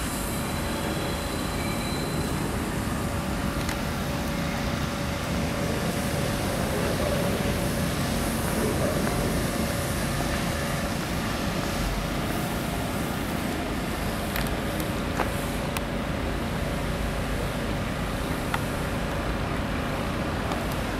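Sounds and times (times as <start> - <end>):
urban traffic hum: 0.0 - 20.9.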